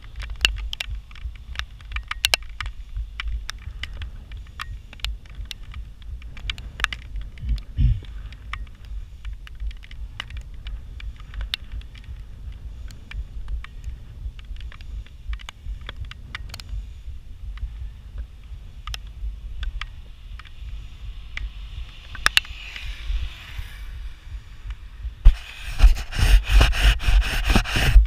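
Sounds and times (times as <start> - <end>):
bicycle clicks and rattles: 0.0 - 28.0
wind buffeting microphone: 0.0 - 28.0.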